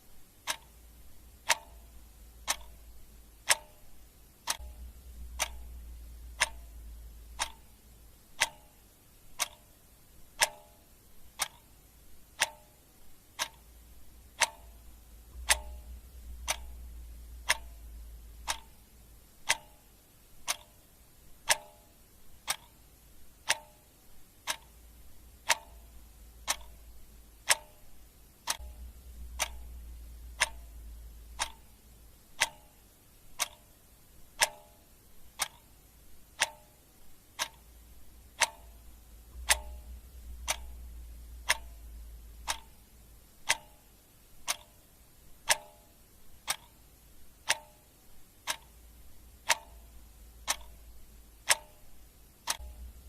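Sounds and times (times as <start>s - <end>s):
mechanical clock ticking: 0.0s - 53.0s.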